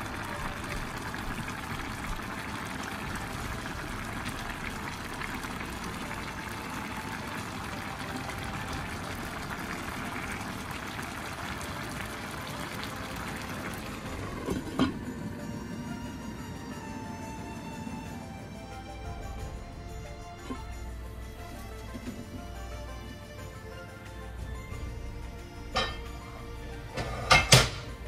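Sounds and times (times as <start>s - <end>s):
pot of liquid boiling: 0.0s - 28.0s.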